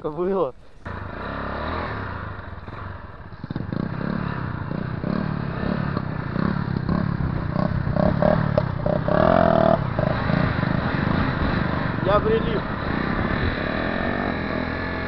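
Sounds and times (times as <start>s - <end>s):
small motorcycle engine running: 0.9s - 15.0s.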